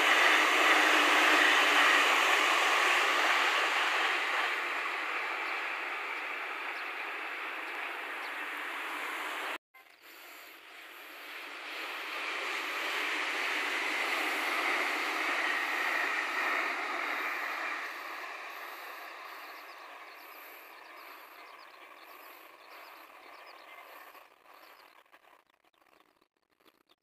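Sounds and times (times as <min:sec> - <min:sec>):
train passing on rails: 0:00.0 - 0:24.9.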